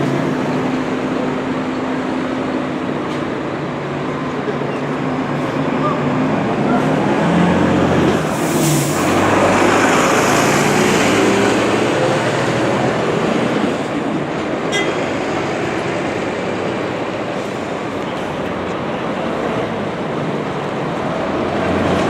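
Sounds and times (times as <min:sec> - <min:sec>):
diesel coach engine running: 0:00.0 - 0:22.0
road noise: 0:00.0 - 0:22.0.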